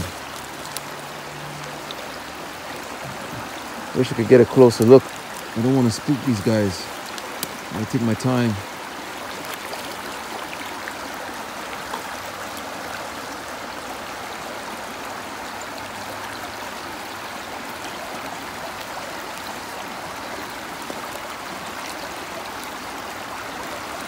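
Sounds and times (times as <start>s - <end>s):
stream flowing over stones: 0.0s - 24.0s.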